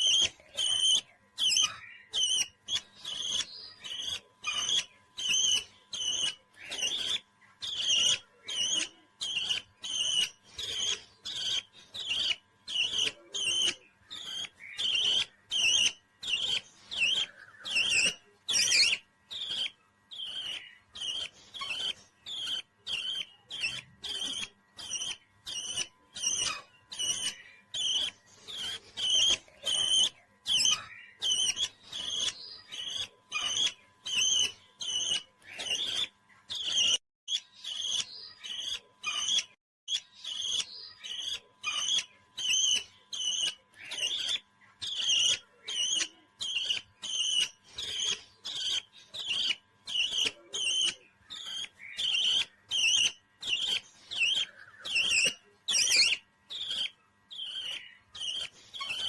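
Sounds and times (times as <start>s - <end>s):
parrot chirping: 0.0s - 59.0s.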